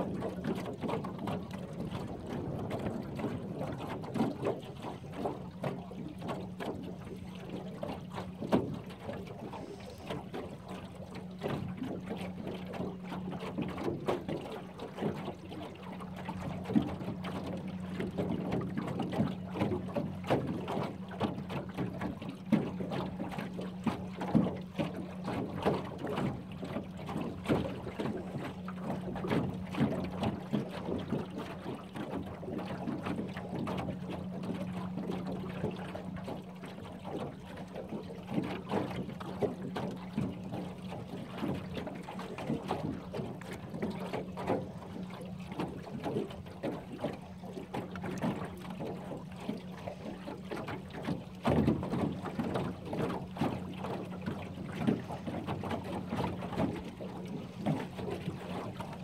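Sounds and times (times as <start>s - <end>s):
boat motor humming: 0.0s - 59.0s
water slapping metal hull: 0.0s - 59.0s.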